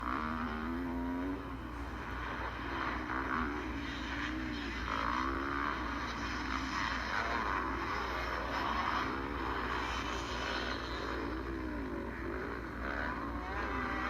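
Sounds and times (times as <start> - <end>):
motorbike engines revving: 0.0 - 14.0.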